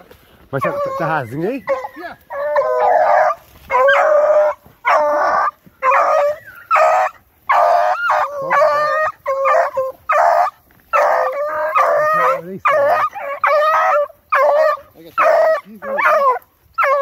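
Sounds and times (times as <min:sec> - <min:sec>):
hound baying: 0:00.6 - 0:17.0.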